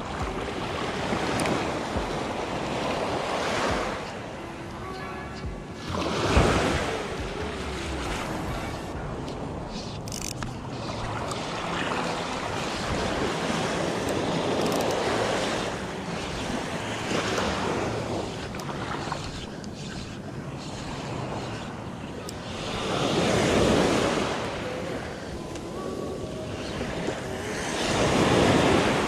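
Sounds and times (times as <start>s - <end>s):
small waves washing on beach: 0.0s - 29.0s
wind buffeting microphone: 0.0s - 29.0s.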